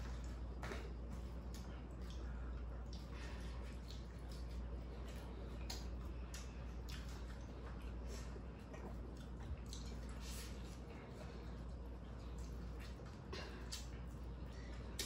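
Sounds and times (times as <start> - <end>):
steady low hum: 0.0 - 15.0
chewing and slurping noodles: 1.2 - 15.0.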